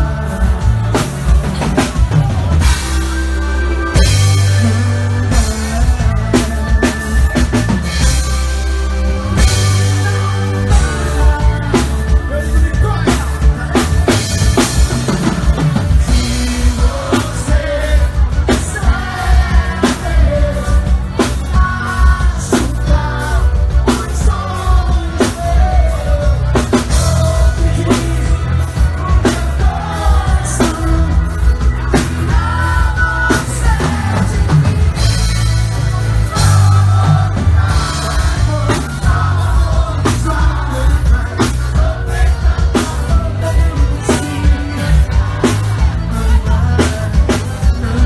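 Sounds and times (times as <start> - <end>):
drum kit beat: 0.0 - 48.0
heavy bass: 0.0 - 48.0
person singing: 0.0 - 48.0.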